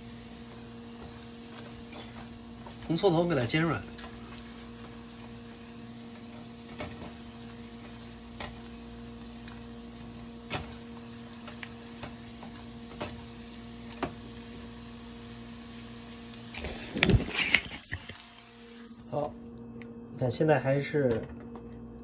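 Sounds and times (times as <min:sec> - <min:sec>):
shallots sizzling in butter: 0:00.0 - 0:19.0
steady low hum: 0:00.0 - 0:22.0.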